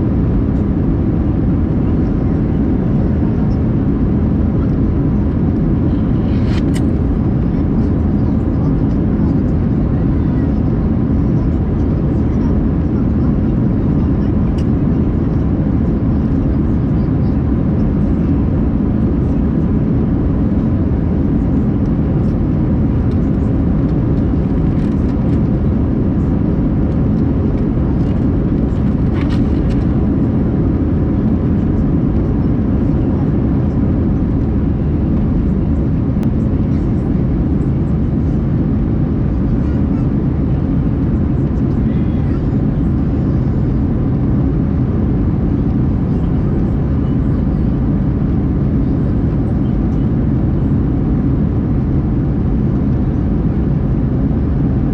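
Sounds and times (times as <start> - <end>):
jet engine cabin rumble: 0.0 - 54.9.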